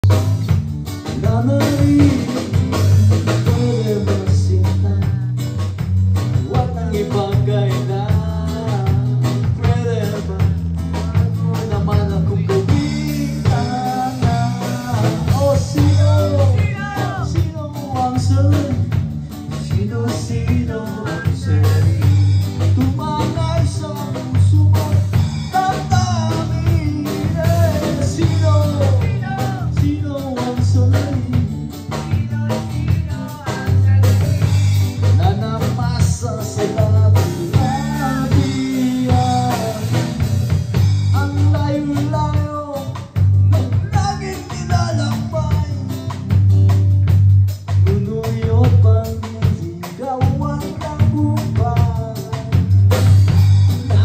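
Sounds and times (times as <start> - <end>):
drum kit: 0.0 - 54.0
electric bass line: 0.0 - 54.0
man singing: 0.0 - 54.0.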